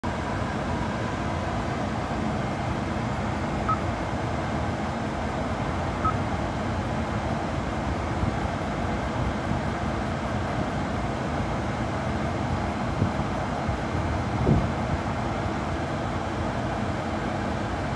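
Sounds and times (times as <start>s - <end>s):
car interior hum and hiss: 0.1s - 17.9s.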